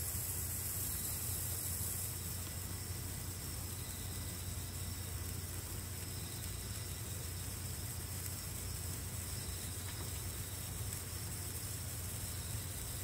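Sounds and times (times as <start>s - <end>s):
firework hissing: 0.0s - 13.0s.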